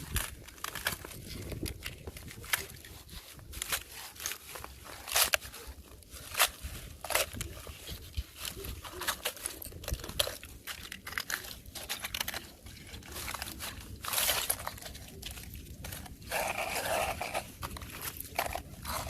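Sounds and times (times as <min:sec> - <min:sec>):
scraping crunch of ice: 0:00.0 - 0:19.0
thin ice crunching and cracking: 0:00.0 - 0:19.0.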